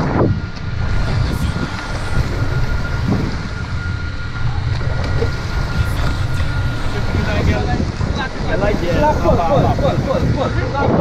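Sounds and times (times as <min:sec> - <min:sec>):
boat engine rumbling: 0:00.0 - 0:11.0
faint steady whine: 0:00.0 - 0:11.0.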